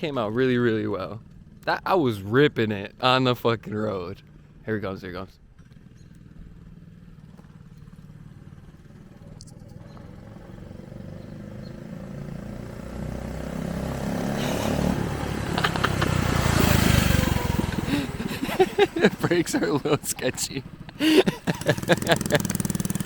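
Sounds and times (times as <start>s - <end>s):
mini-bike engine approaching: 0.0s - 23.0s.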